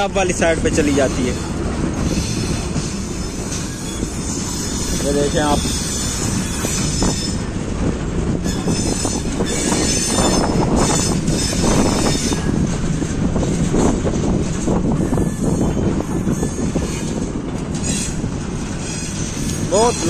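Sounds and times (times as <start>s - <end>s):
high wheel squeal: 0.0s - 7.6s, 8.3s - 12.7s, 14.8s - 20.0s
freight train rolling on rails: 0.0s - 20.0s.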